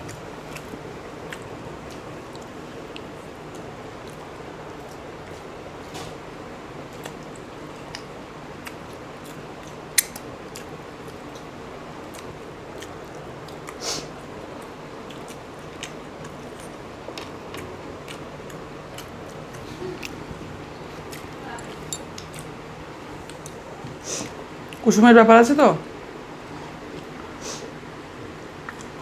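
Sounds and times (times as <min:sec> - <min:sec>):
chewing: 0:00.0 - 0:06.1, 0:06.9 - 0:13.8, 0:14.6 - 0:24.8, 0:28.6 - 0:29.0
background hum: 0:00.0 - 0:29.0.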